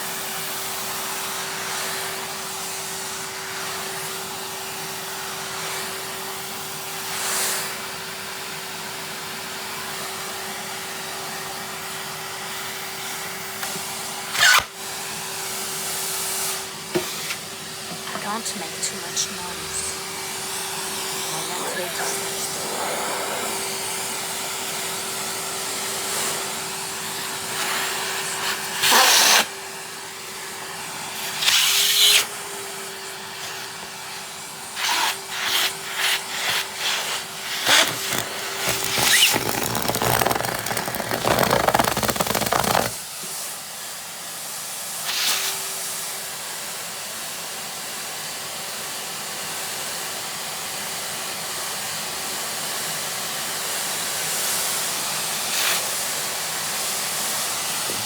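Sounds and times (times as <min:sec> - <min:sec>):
vacuum cleaner whining: 0:00.0 - 0:58.0.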